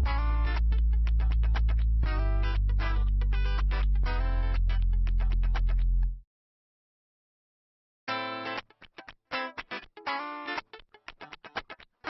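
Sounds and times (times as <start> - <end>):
choppy guitar chords: 0.0 - 6.2, 8.1 - 12.0.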